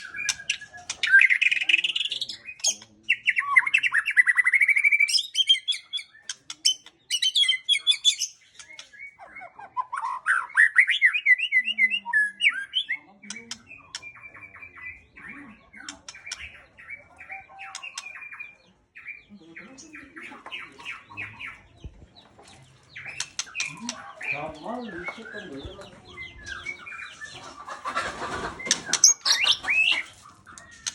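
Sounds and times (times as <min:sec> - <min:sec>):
bird singing trills and whistles: 0:00.0 - 0:21.9, 0:22.8 - 0:30.9.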